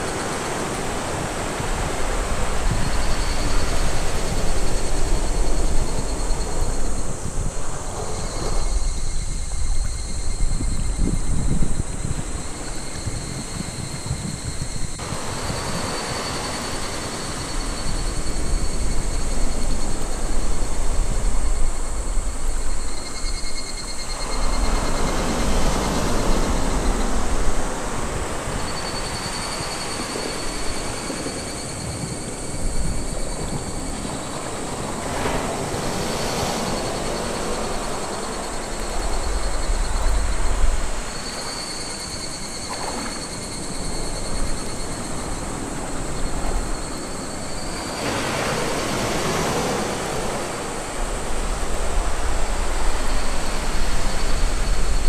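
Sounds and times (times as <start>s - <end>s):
small waves breaking on beach: 0.0s - 8.6s, 15.0s - 23.1s, 24.1s - 55.0s.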